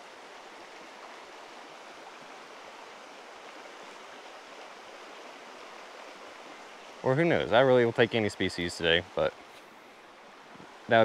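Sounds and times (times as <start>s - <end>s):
river water flowing over stones: 0.0s - 11.0s.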